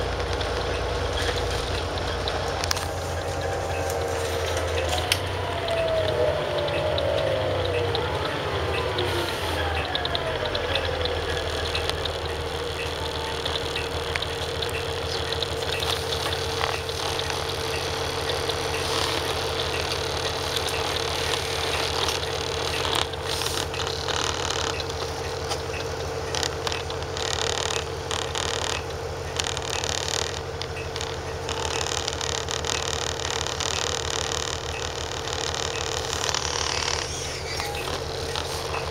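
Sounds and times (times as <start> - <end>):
bus diesel engine at low revs: 0.0 - 38.9
steady whine: 0.0 - 38.9.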